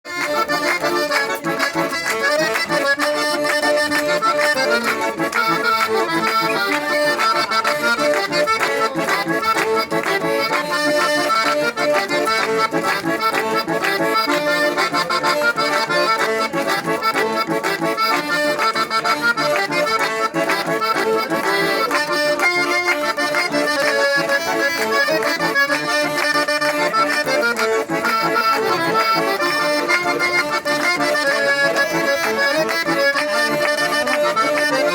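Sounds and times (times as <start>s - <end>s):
button accordion playing a tune: 0.0s - 34.9s.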